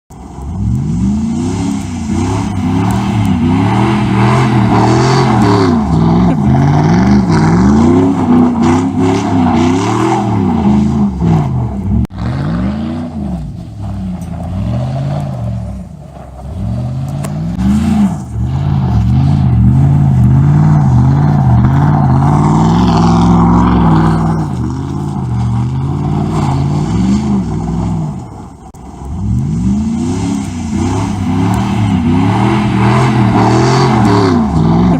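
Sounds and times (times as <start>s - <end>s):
truck engine revving: 0.4s - 34.9s.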